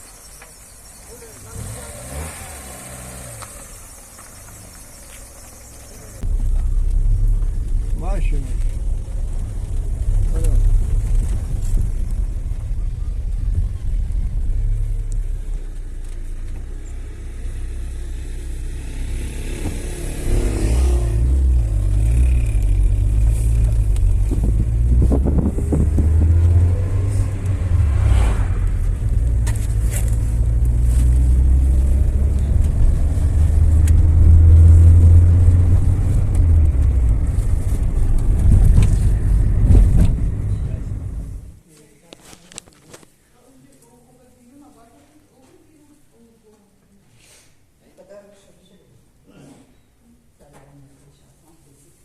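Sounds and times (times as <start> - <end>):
vehicle engine rumbling: 0.0 - 41.6.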